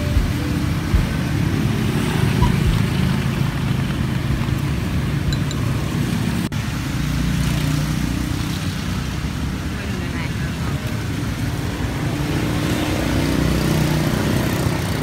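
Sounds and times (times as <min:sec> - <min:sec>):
motorbike engines: 0:00.0 - 0:15.0
street traffic rumble: 0:00.0 - 0:15.0.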